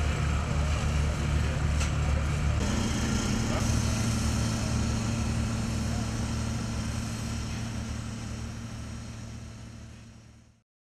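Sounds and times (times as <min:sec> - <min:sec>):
heavy engine humming: 0:00.0 - 0:10.6.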